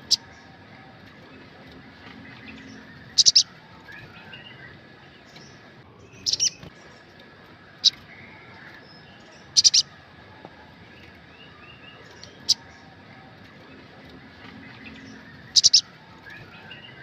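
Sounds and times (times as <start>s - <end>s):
bird high chirps: 0.0s - 7.0s, 7.8s - 10.0s, 10.6s - 17.0s.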